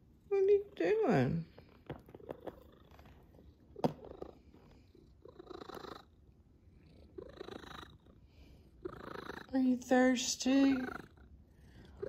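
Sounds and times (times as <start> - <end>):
cat purring: 0.1 - 12.0.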